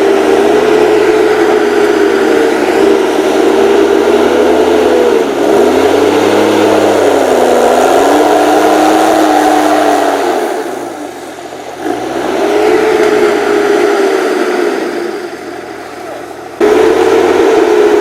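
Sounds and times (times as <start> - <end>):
diesel engine running hard: 0.0 - 18.0.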